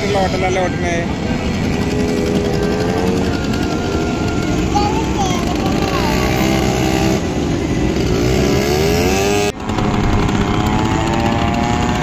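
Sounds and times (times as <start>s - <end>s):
quad bike engines running: 0.0s - 12.0s
engine revving up: 1.7s - 12.0s.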